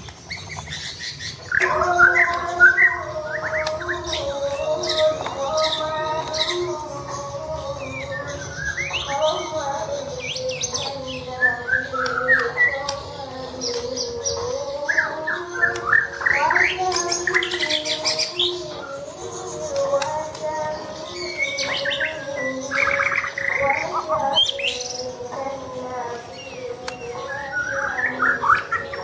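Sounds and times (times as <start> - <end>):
songbird chirping and whistling: 0.0 - 29.0.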